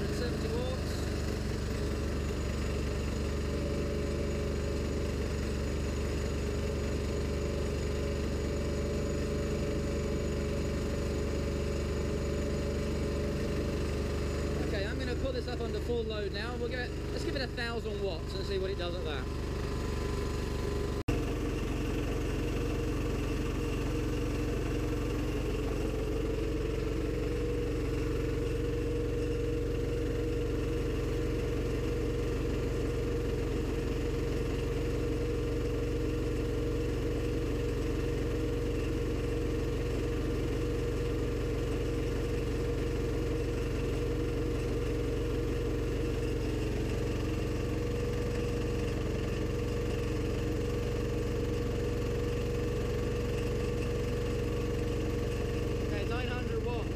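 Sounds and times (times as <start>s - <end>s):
engine driving a generator: 0.0s - 56.9s.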